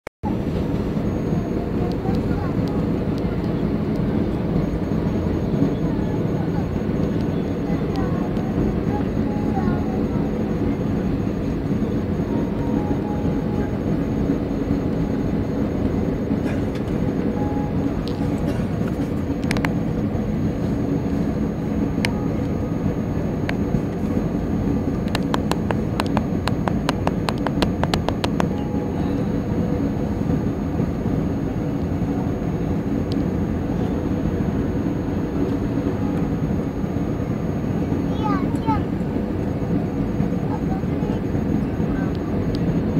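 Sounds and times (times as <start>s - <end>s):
jet engine and airflow drone: 0.2s - 42.9s.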